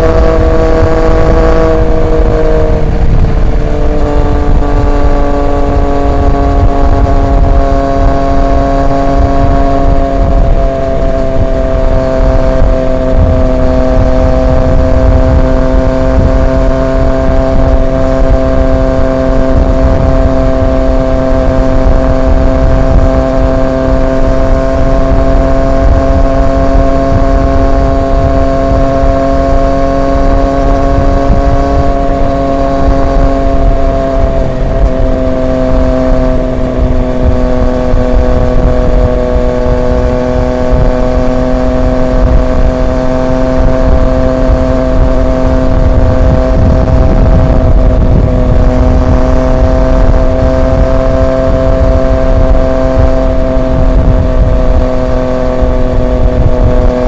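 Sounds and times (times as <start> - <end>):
heavy low rumble: 0.0 - 57.0
motorcycle engine cruising: 0.0 - 57.0.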